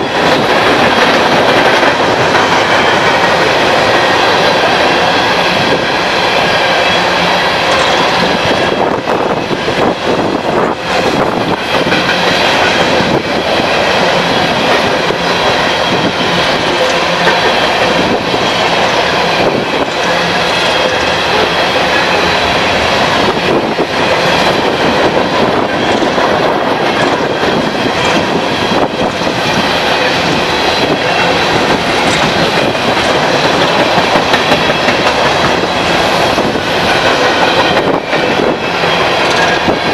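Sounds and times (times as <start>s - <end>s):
train wheels rushing on rail: 0.0s - 39.9s.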